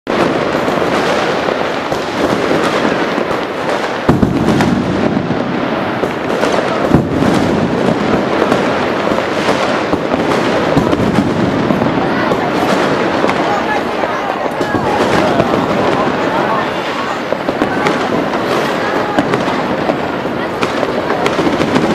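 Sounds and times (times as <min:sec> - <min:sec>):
fireworks crackling and popping: 0:00.0 - 0:21.9
heavy firework booms: 0:00.1 - 0:21.9.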